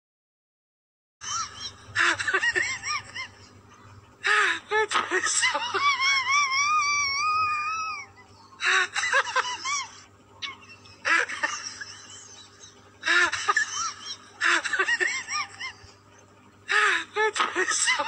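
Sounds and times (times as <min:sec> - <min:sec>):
high-pitched laughter: 0:01.2 - 0:18.0.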